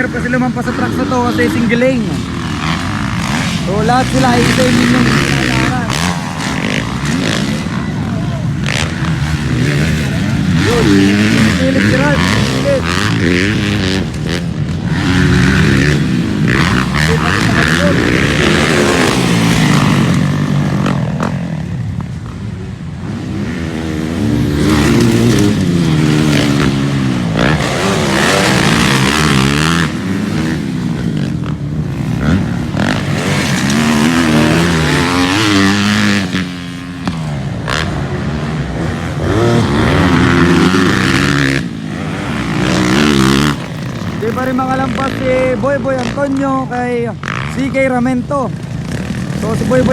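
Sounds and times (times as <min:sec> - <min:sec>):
dirt bike engines revving: 0:00.0 - 0:49.9.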